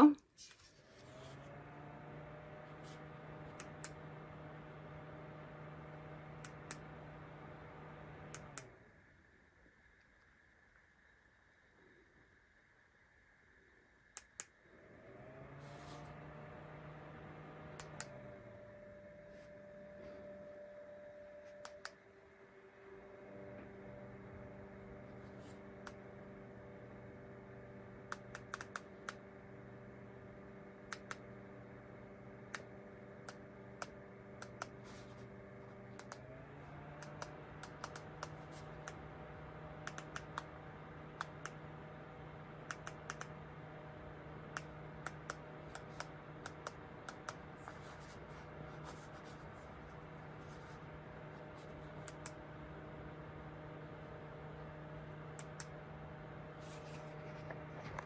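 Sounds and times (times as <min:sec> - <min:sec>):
ceiling fan motor humming: 0:00.0 - 0:09.9, 0:14.1 - 0:58.0.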